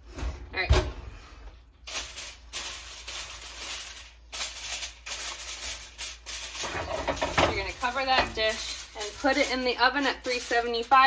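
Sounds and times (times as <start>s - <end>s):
aluminum foil crinkling: 1.8s - 11.0s.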